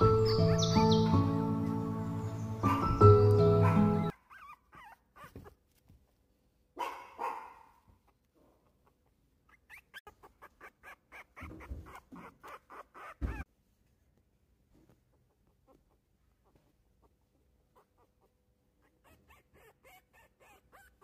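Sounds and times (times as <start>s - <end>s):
puppy whimpering and yelping: 0.0s - 5.7s, 8.1s - 13.5s, 15.3s - 21.0s.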